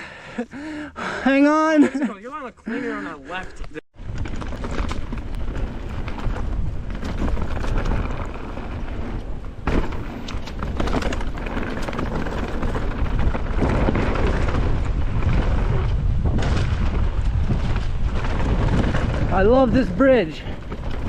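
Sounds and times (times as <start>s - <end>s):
bike tyres rattling over rocks: 4.0s - 21.0s
wind buffeting microphone: 4.0s - 21.0s.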